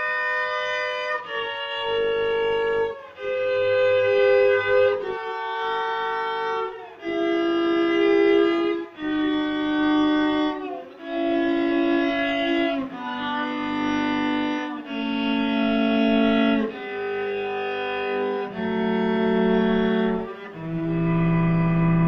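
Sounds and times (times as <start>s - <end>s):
cello playing bowed notes: 0.0s - 22.0s.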